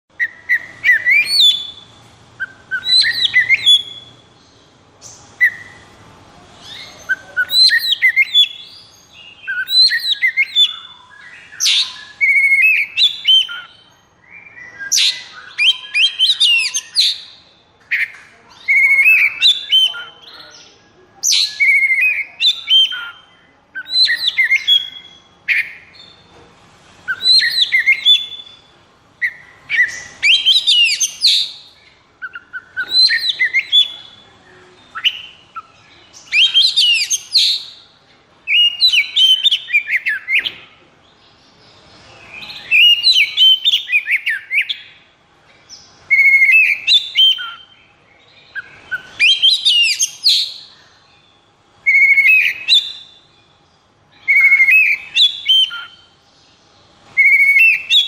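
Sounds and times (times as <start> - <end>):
bird singing whistled phrases: 0.1 - 4.2, 5.0 - 5.8, 6.6 - 20.5, 21.2 - 26.2, 27.1 - 34.3, 34.9 - 37.9, 38.5 - 40.6, 42.2 - 45.0, 46.1 - 47.8, 48.5 - 50.8, 51.8 - 53.4, 54.2 - 56.2, 57.2 - 58.0.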